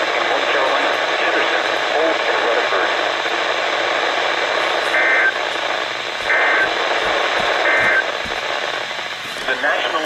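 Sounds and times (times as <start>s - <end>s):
radio static: 0.0s - 10.0s.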